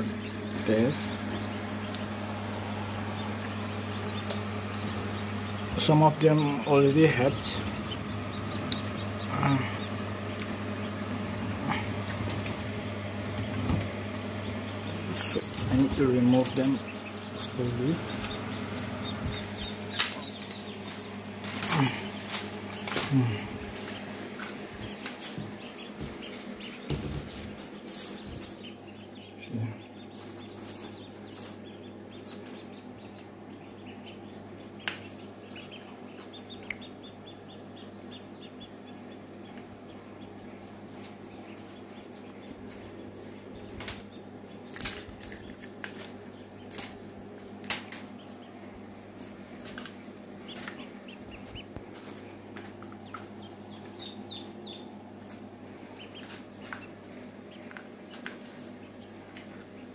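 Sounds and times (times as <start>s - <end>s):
ducklings peeping: 0.0s - 59.9s
steady low hum: 0.0s - 59.9s.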